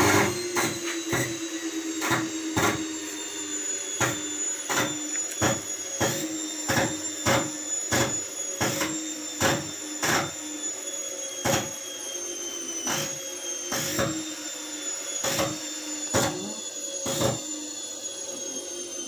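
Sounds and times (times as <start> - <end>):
washing machine motor whine: 0.0 - 19.0.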